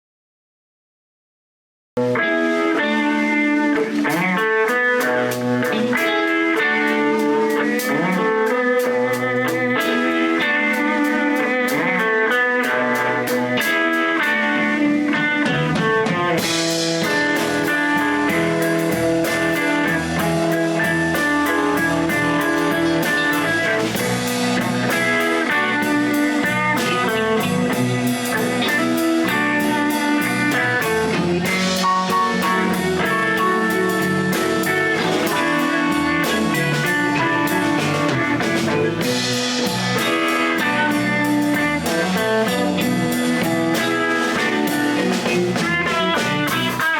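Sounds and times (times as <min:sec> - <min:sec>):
blues band playing live: 0:02.0 - 0:46.9
drums and cymbals: 0:02.0 - 0:46.9
electric guitar: 0:02.0 - 0:46.9.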